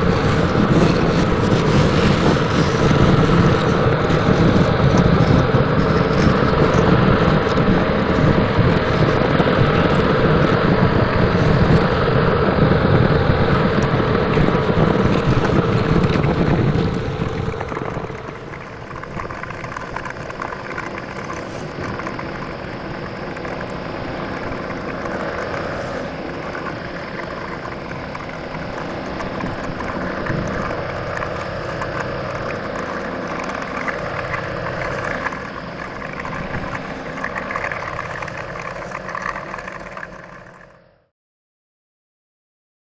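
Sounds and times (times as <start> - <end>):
truck engine running: 0.0 - 41.1.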